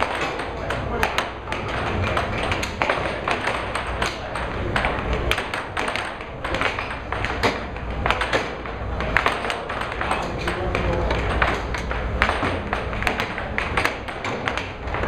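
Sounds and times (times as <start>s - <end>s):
air hockey puck clacking: 0.0s - 15.0s
steady low hum: 0.0s - 15.0s.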